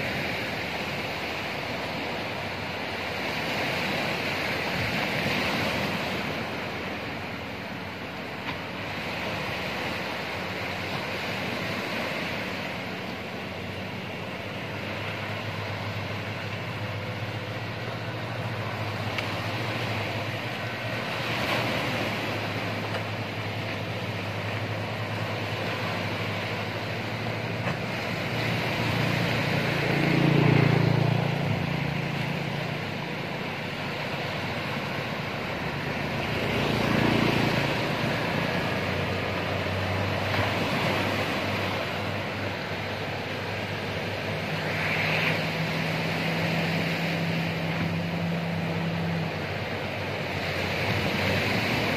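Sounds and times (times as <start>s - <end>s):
boat outboard motor humming: 0.0s - 51.9s
surf breaking and washing: 0.0s - 51.9s.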